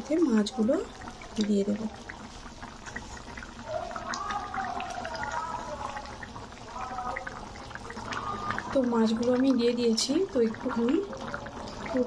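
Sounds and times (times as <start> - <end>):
liquid splashing and bubbling: 0.0 - 12.0.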